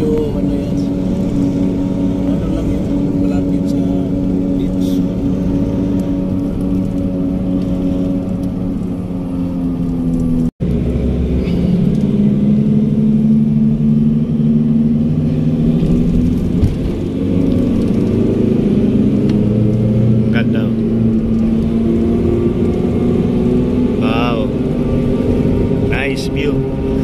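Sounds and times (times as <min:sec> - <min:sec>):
road rumble: 0:00.0 - 0:27.0
vehicle engine running: 0:00.0 - 0:27.0.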